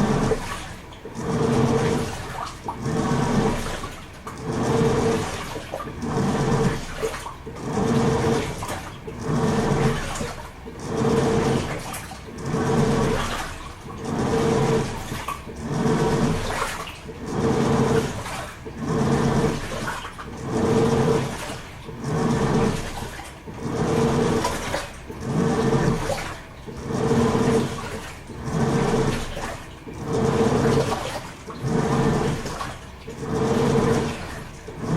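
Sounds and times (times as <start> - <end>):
washing machine churning water: 0.0 - 34.9.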